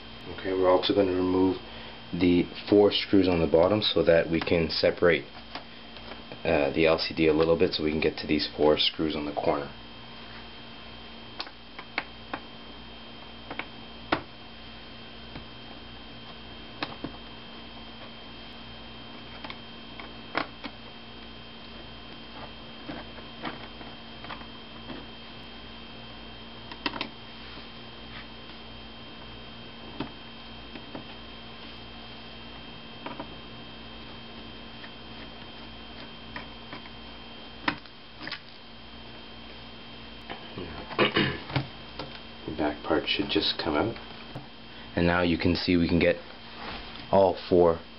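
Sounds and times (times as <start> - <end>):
steady electrical hum: 0.0 - 47.9.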